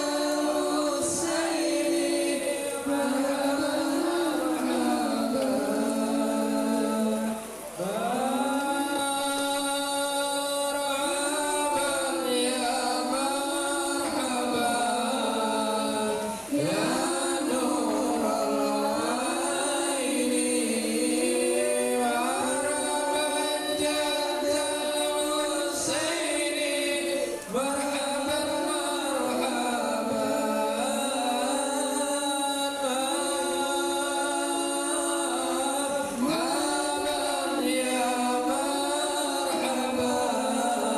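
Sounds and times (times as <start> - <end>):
voices singing devotional chant: 0.0 - 40.9.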